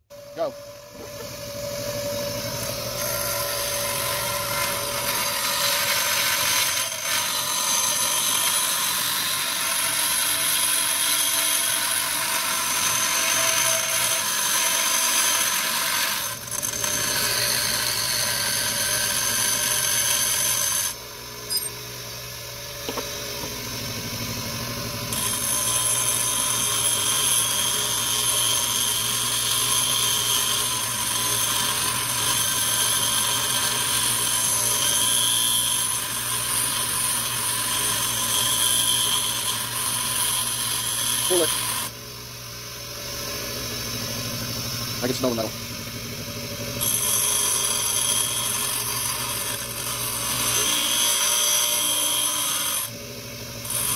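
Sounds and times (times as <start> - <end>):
grinder grinding metal: 0.1 - 53.9
grinder motor hum: 0.1 - 53.9.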